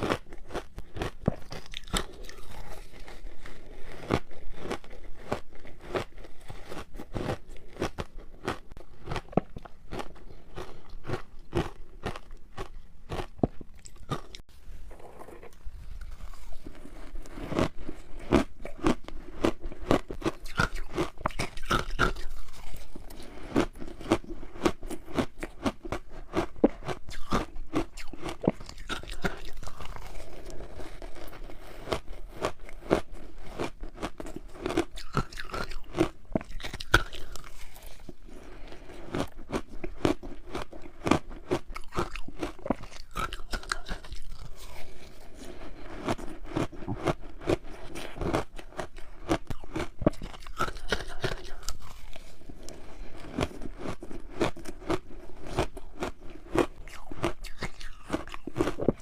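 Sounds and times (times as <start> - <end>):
ice being bitten and chewed: 0.0 - 59.0.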